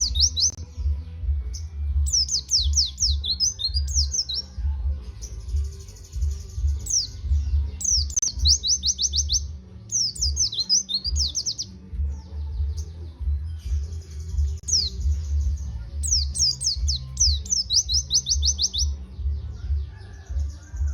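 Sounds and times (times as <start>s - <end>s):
bird song with buzzy trill: 0.0s - 20.9s.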